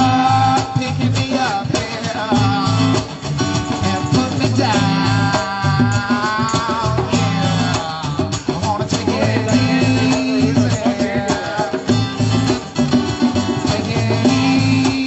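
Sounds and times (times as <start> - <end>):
band music with drums and bass: 0.0 - 15.0.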